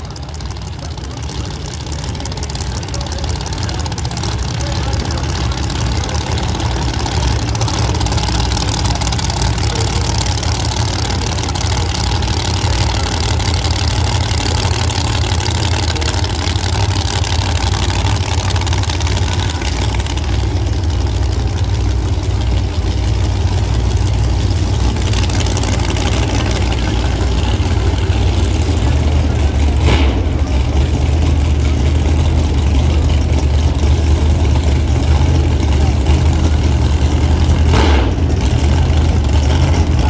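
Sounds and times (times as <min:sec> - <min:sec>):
race car engines idling: 0:00.0 - 0:40.0.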